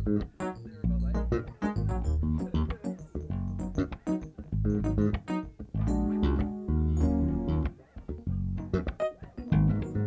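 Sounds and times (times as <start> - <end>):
keyboard notes: 0.0 - 10.0
plucked electric bass: 0.0 - 10.0.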